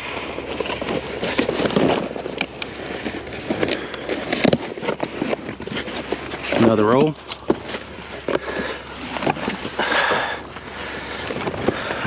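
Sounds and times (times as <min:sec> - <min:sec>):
crackly rustling: 0:00.0 - 0:12.0
scrap clattering and knocking: 0:00.2 - 0:10.4.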